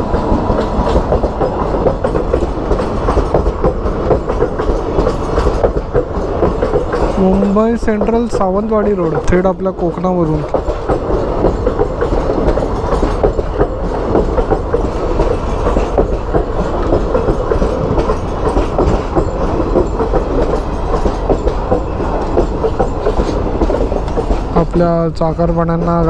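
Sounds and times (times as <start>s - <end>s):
train wheels clattering over rail joints: 0.0s - 26.0s.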